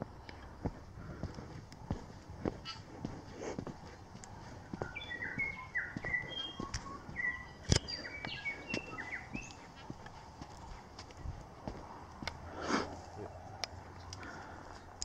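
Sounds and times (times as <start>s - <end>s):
footsteps on dirt path: 0.0s - 15.0s
songbird chirping: 0.0s - 15.0s.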